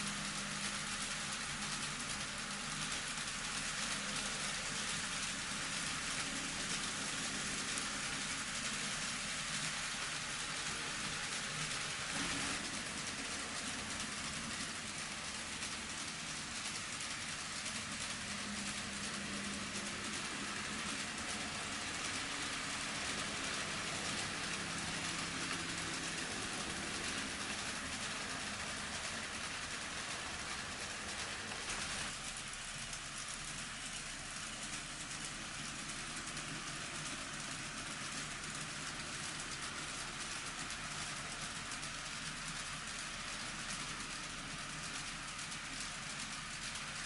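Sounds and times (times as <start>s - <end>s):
faint low motor hum: 0.0s - 47.0s
model train wheels rattling on rails: 0.0s - 47.0s.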